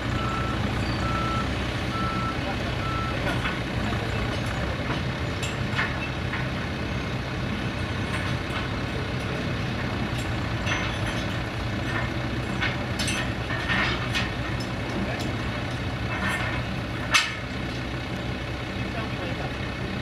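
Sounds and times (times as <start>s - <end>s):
truck diesel engine idling: 0.0s - 20.0s.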